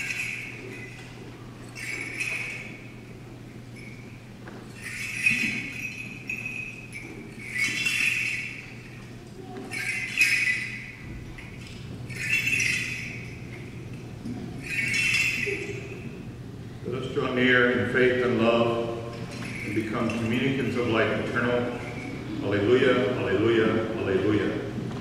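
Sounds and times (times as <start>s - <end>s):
censer bells jingling: 0.0s - 24.7s.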